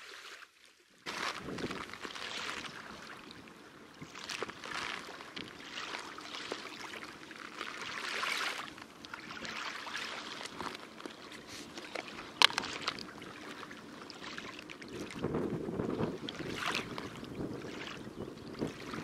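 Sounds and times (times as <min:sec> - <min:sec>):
water sloshing in a bucket: 0:00.0 - 0:19.0.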